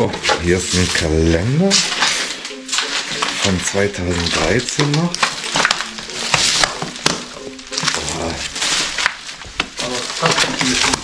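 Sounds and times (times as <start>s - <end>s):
paper and plastic rustling: 0.0s - 11.0s.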